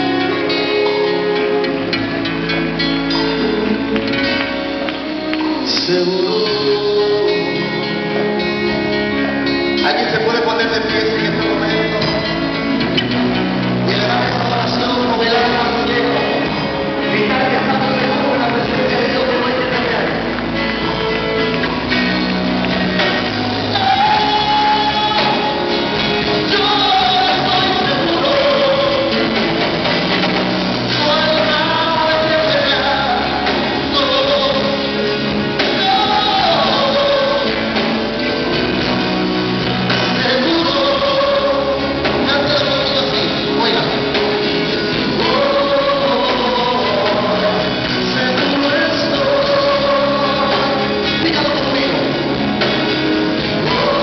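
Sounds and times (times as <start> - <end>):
live band with acoustic guitar: 0.0 - 54.0
man singing into a microphone: 3.0 - 21.6, 23.0 - 54.0.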